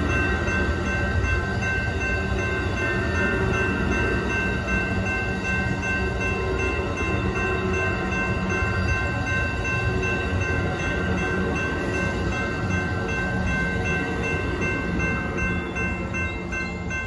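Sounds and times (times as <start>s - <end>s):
electronic crossing bells ringing: 0.0s - 17.0s
train wheels rumbling on rails: 0.0s - 17.0s.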